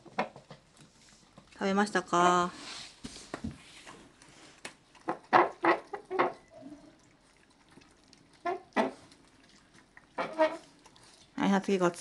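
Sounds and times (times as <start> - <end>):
dogs licking and lapping: 0.0 - 12.0.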